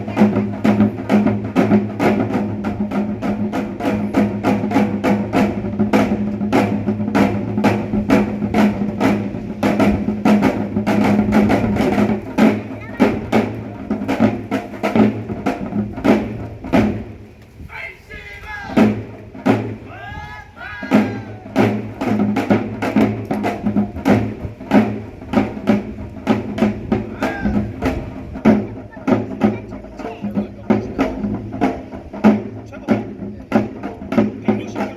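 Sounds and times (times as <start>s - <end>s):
fast percussion drumming: 0.0s - 34.9s.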